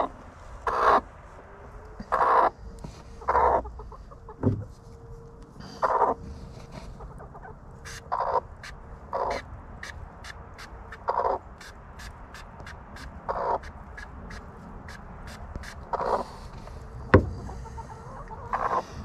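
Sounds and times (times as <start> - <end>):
chickens squawking: 0.0 - 1.1, 2.0 - 4.4, 5.6 - 19.0.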